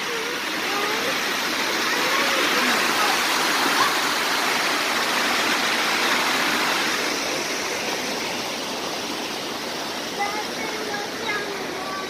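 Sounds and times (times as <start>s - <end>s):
small waterfall splashing over rocks: 0.0s - 12.0s.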